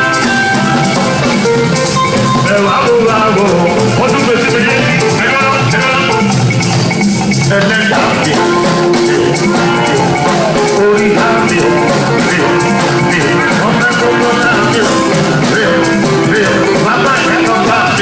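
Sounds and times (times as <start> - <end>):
latin band playing: 0.0 - 18.0
maracas shaking: 0.0 - 18.0.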